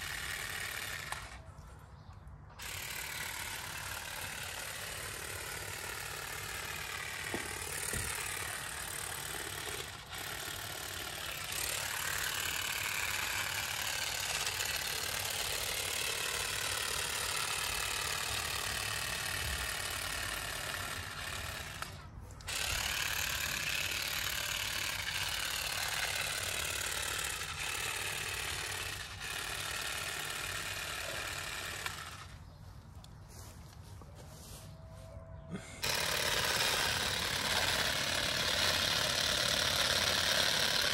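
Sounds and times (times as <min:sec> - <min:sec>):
cordless shears motor buzzing: 0:00.0 - 0:01.7, 0:02.5 - 0:33.2, 0:35.7 - 0:40.9.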